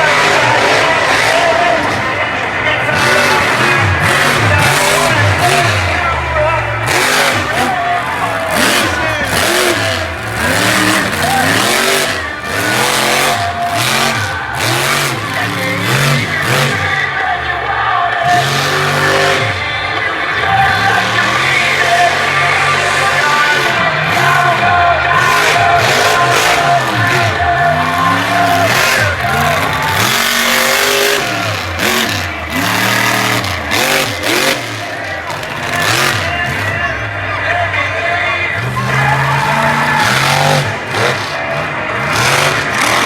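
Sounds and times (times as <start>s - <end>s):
truck engine revving: 0.0s - 43.0s.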